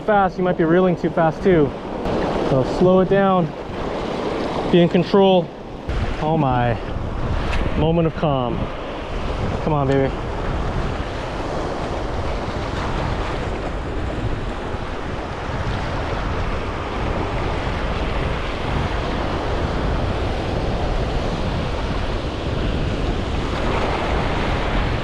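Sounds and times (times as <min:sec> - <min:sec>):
ocean surf washing: 0:00.0 - 0:25.0
wind buffeting microphone: 0:00.0 - 0:25.0.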